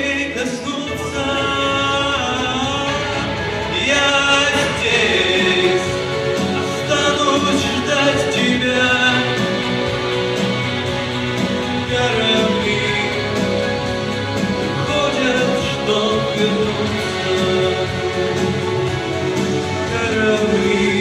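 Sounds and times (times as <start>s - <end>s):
pop song with vocals: 0.0s - 21.0s.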